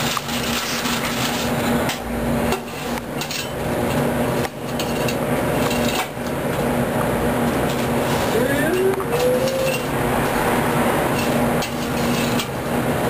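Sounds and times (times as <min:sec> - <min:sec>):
popcorn scooping rustle: 0:00.0 - 0:01.9, 0:02.6 - 0:10.4, 0:11.0 - 0:12.8.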